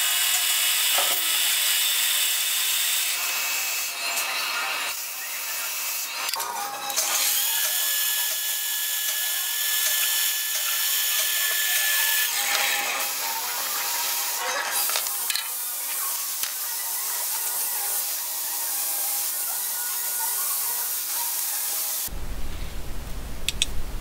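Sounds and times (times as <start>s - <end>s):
metal lathe motor whine: 0.0s - 22.0s.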